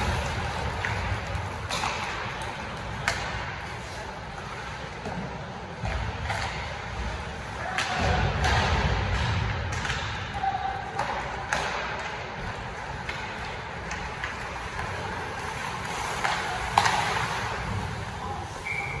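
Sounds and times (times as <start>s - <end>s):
hockey sticks and puck clacking: 0.0s - 19.0s
indoor hall noise: 0.0s - 19.0s
skates scraping ice: 0.0s - 19.0s.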